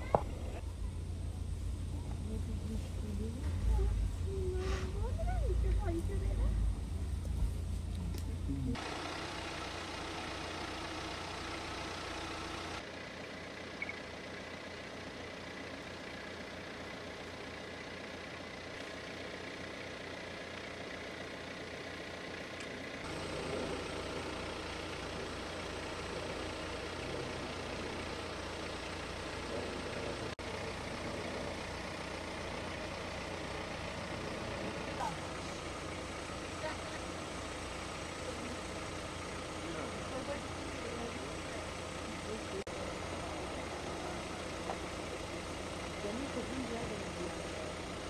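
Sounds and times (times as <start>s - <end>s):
vehicle engine idling: 0.0s - 48.0s.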